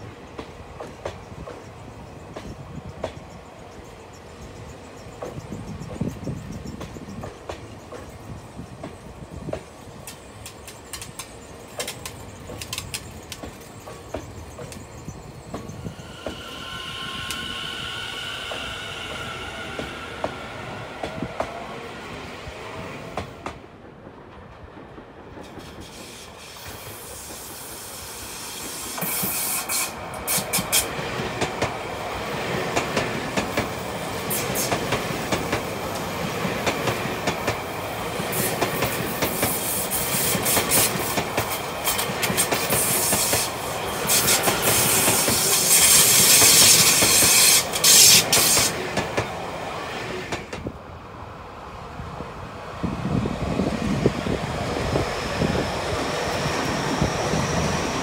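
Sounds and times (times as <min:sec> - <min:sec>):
train wheels clicking over rail joints: 0:00.0 - 0:50.8.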